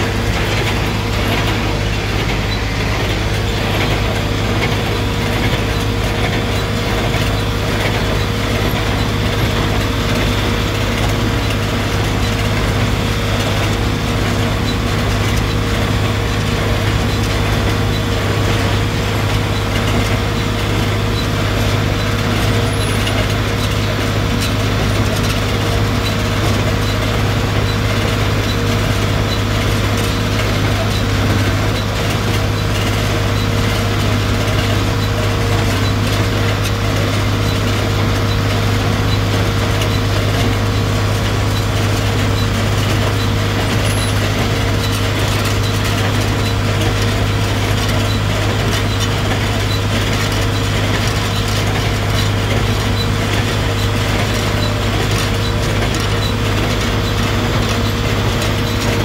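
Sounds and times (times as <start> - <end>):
hay baler mechanism running: 0.0 - 59.0
tractor engine running under load: 0.0 - 59.0.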